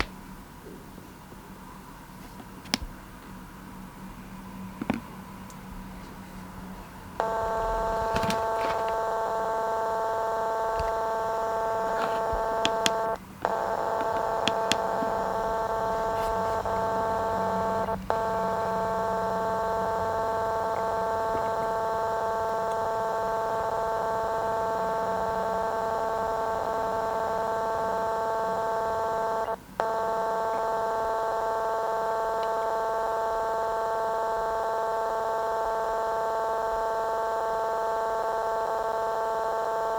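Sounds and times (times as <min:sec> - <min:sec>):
baby monitor electronic tone: 0:07.2 - 0:39.9.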